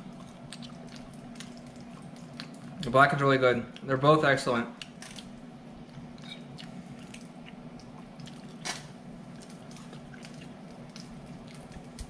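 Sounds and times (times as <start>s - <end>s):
person chewing: 0.0s - 2.8s, 4.8s - 12.0s
steady low hum: 0.0s - 12.0s.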